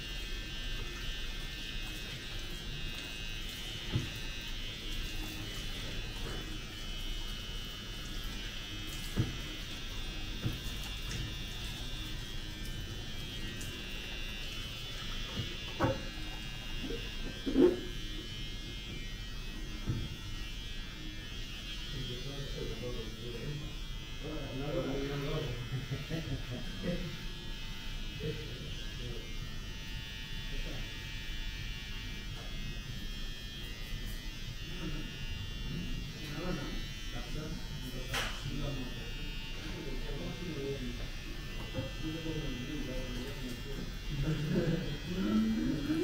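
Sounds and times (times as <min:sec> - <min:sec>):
small electric motor buzzing: 0:00.0 - 0:46.0.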